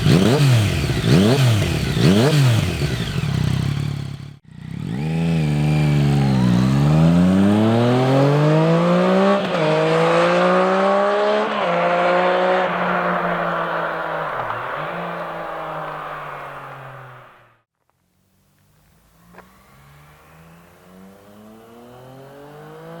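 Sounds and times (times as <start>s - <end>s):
motorcycle engine accelerating: 0.0s - 17.7s, 19.0s - 23.0s.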